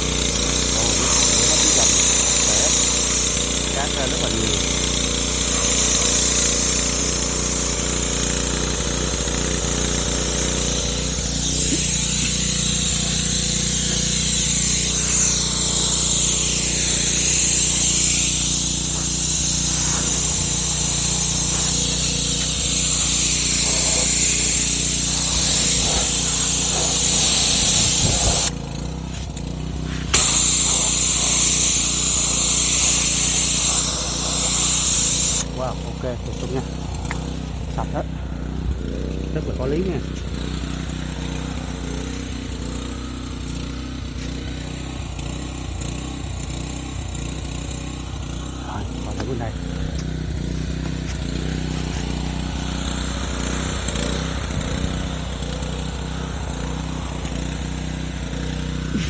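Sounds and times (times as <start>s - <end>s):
pressure washer pump humming: 0.0s - 59.0s
water jets hissing on concrete: 0.0s - 59.0s.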